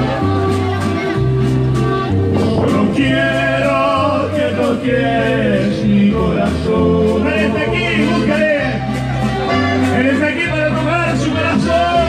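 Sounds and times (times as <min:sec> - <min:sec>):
band with steady bass line: 0:00.0 - 0:12.0
man singing: 0:02.3 - 0:12.0.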